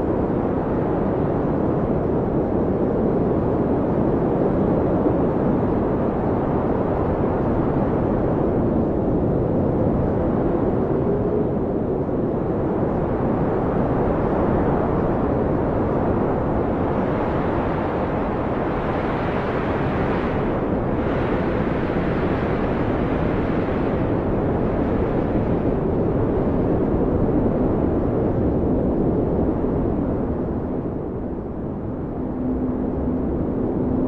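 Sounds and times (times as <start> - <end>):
blizzard wind howling: 0.0 - 34.0.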